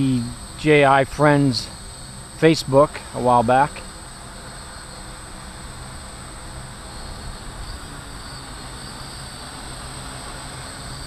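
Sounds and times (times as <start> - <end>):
drone motors humming: 0.0 - 11.0.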